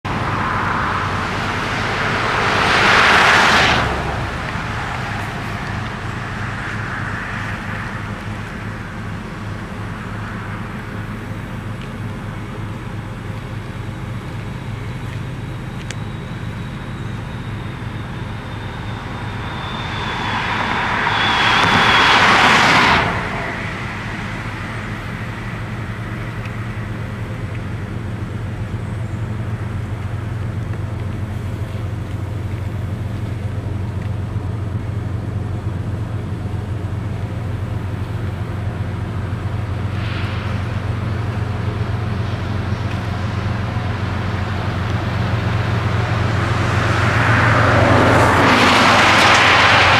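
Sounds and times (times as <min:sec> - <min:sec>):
cars passing: 0:00.0 - 0:49.9.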